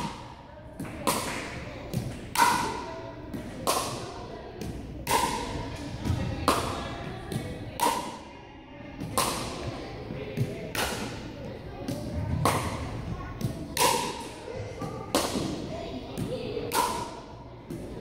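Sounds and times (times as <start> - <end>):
paddle hitting plastic ball: 0.0 - 8.2, 9.0 - 9.8, 10.4 - 11.2, 11.8 - 14.4, 15.1 - 15.6, 16.2 - 17.9.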